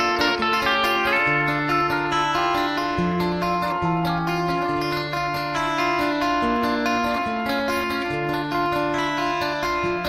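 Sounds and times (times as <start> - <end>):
plucked guitar music: 0.0 - 10.0.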